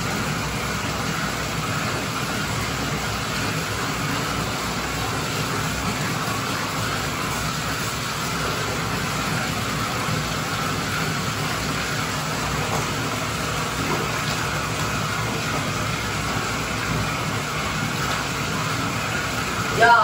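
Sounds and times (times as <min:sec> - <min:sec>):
water running into bathtub: 0:00.0 - 0:20.0.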